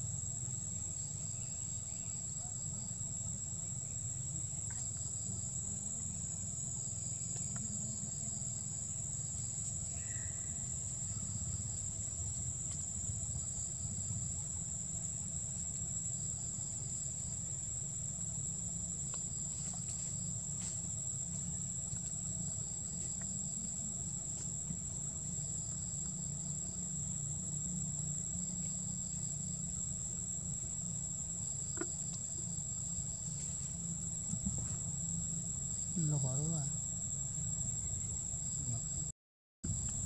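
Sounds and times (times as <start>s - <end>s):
low steady rumble: 0.0s - 39.1s
forest insects droning: 0.0s - 40.0s.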